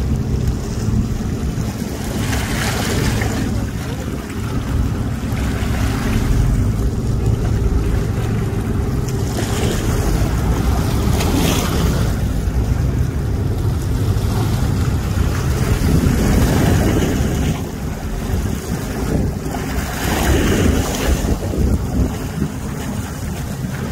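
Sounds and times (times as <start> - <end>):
river water splashing around boat: 0.0 - 23.9
wind buffeting microphone: 0.0 - 23.9.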